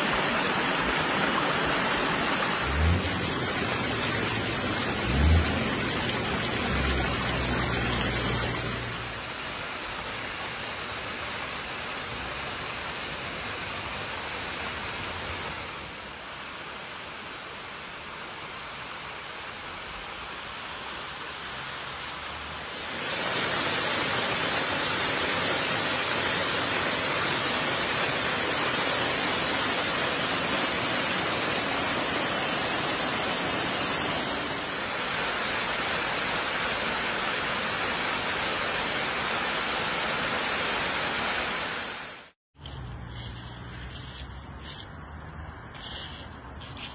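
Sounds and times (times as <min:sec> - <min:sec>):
waterfall rushing: 0:00.0 - 0:16.5, 0:20.5 - 0:42.4.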